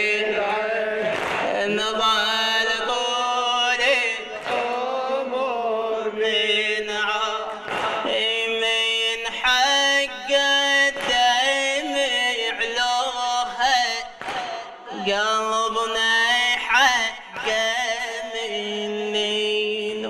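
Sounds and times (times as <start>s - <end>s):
man singing a lament: 0.0s - 20.0s.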